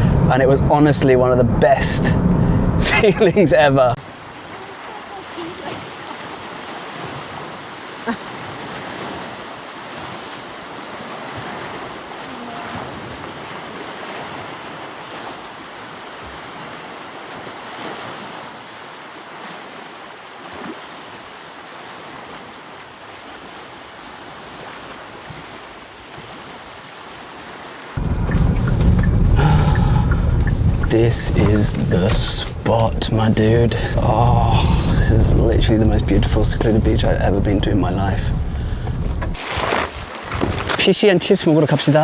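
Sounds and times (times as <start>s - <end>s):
lapping lake water: 0.0s - 42.0s
wind: 0.0s - 42.0s.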